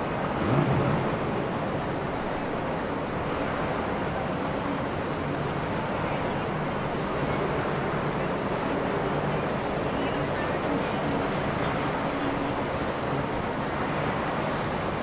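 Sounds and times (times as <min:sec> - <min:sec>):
boat engine hum: 0:00.0 - 0:15.0
water rushing: 0:00.0 - 0:15.0.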